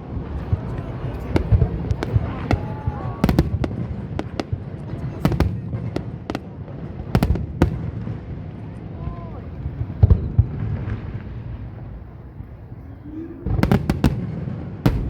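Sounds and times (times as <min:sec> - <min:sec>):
fireworks bursting: 0:00.0 - 0:12.8, 0:13.4 - 0:15.0.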